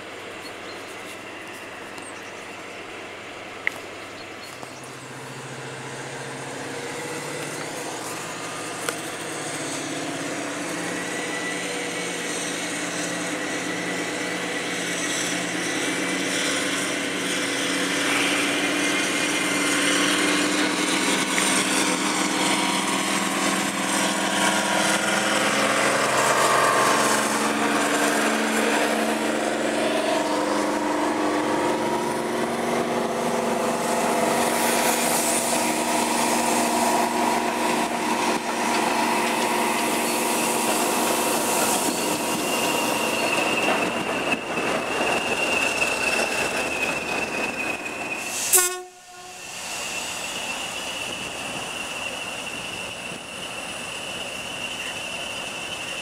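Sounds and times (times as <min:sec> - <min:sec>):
diesel locomotive passing: 0:00.0 - 0:56.0
train coaches rolling: 0:00.0 - 0:56.0.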